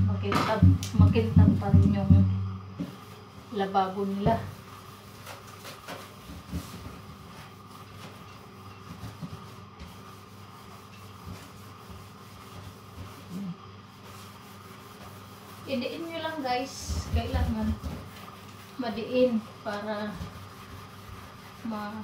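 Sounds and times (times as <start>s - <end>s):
steady low hum: 0.0s - 22.0s
sponge rubbing on steel sink: 0.2s - 22.0s.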